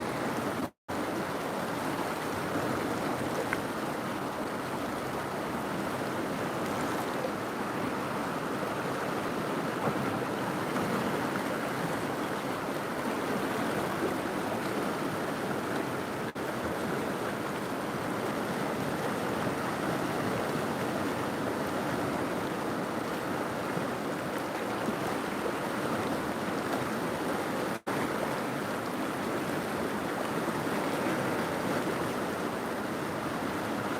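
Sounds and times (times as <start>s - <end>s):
river water flowing: 0.0s - 33.9s.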